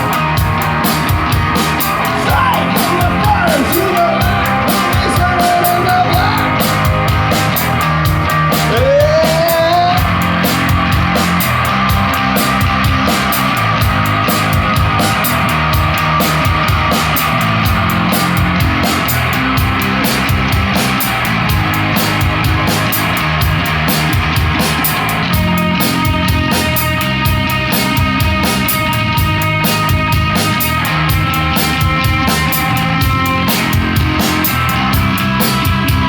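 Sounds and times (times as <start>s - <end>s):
drum kit: 0.0s - 36.0s
electric guitar playing: 0.0s - 36.0s.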